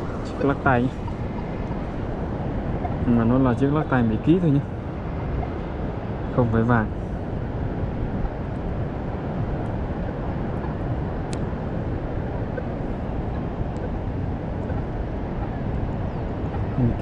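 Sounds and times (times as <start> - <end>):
surf rushing on beach: 0.0 - 17.0.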